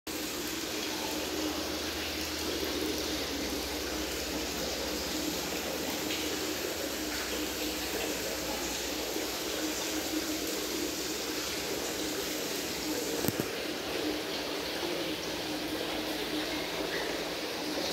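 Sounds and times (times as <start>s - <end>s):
aquarium water rushing: 0.1s - 17.9s.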